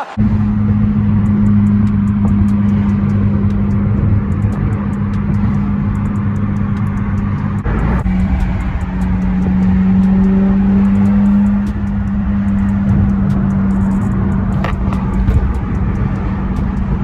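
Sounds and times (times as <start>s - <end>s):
car exhaust drone: 0.0s - 17.0s.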